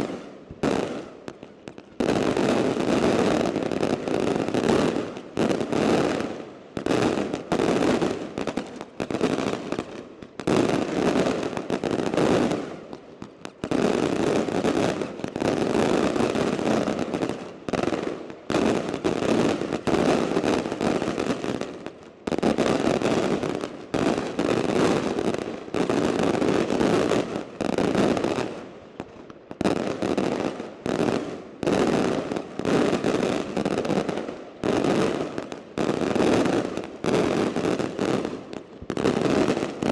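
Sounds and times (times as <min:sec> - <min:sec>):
fireworks crackling bursts: 0:00.0 - 0:39.9.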